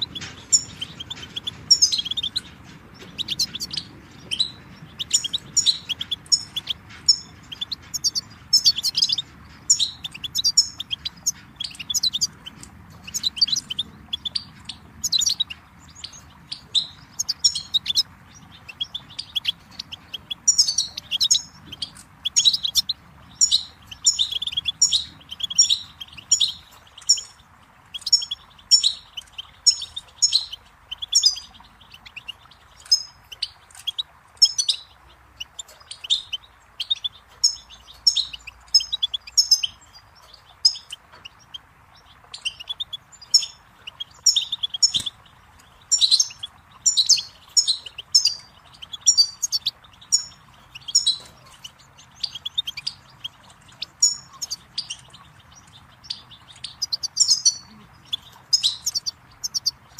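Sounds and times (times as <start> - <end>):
bird twittering and trilling: 0.0 - 59.9
flowing water: 0.0 - 59.9.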